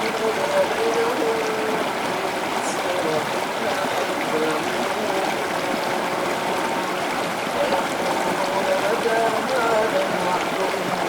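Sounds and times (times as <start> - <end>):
river water flowing over rocks: 0.0 - 11.0.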